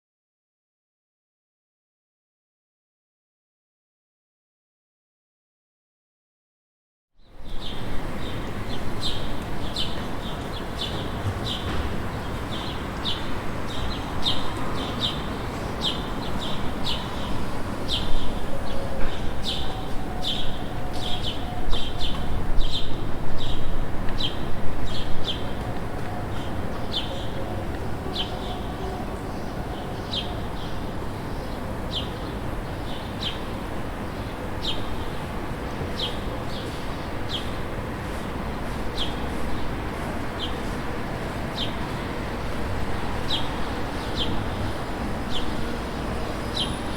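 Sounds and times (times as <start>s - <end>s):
distant traffic hum: 7.7s - 46.9s.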